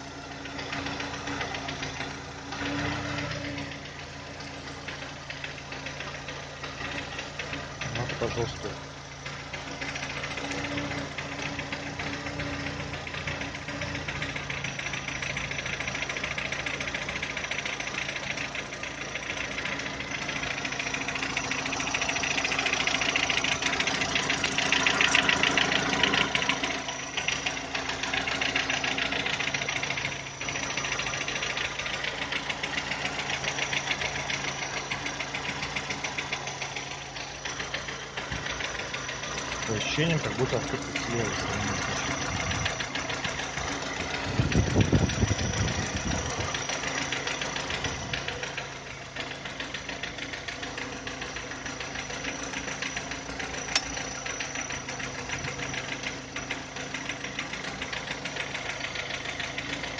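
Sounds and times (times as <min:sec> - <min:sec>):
car engine idling: 0:00.0 - 0:59.9
fast even engine knocking: 0:00.0 - 0:59.9.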